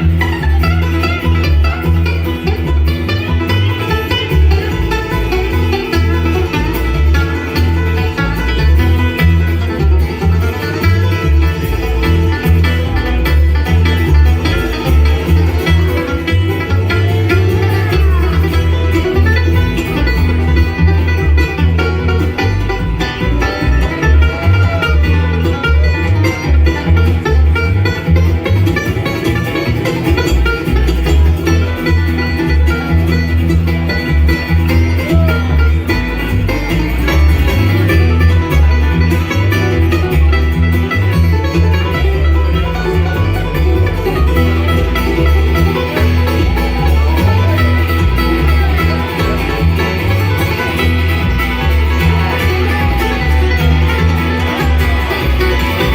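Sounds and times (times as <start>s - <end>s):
banjo picking: 0.0s - 55.9s
bass rhythm: 0.0s - 55.9s
guitar picking: 0.0s - 55.9s.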